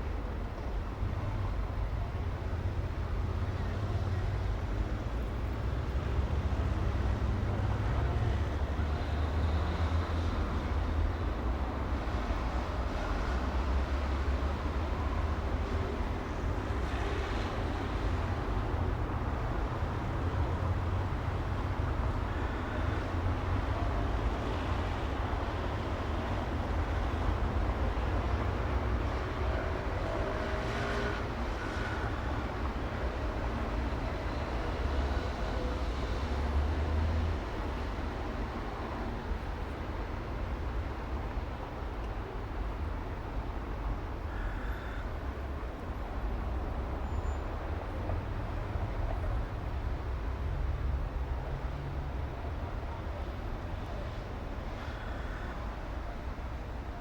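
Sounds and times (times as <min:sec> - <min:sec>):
city street traffic rumble: 0:00.0 - 0:57.0.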